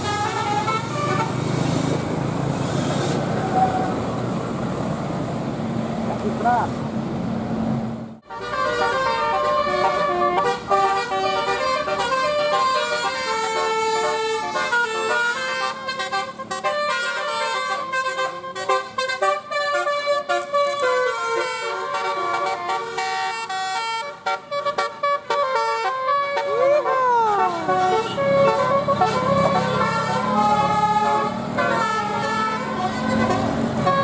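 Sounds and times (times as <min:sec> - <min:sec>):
musical bus horn playing tune: 0:00.0 - 0:01.8, 0:08.2 - 0:34.0.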